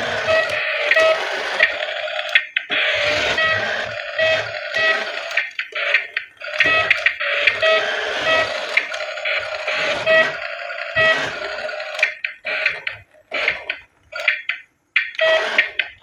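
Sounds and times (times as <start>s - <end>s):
tinny electronic toy tune: 0.0s - 16.0s.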